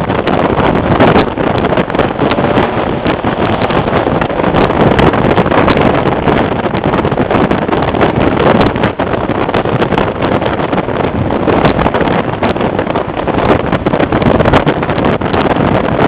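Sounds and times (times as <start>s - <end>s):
road noise: 0.0s - 16.0s
wind buffeting microphone: 0.0s - 16.0s
wind rushing past car: 0.0s - 16.0s.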